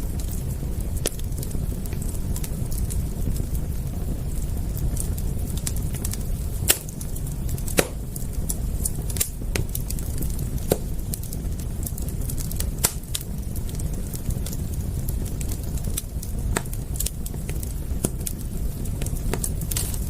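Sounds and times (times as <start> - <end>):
campfire crackling and popping: 0.0 - 20.0
steady low rumble: 0.0 - 20.0.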